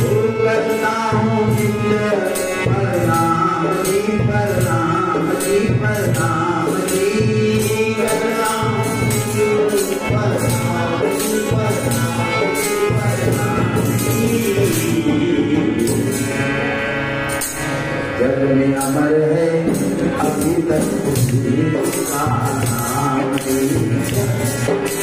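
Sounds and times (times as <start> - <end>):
man singing: 0.0 - 16.6, 18.1 - 25.0
harmonium chords: 0.0 - 25.0
jingling hand percussion: 0.0 - 25.0.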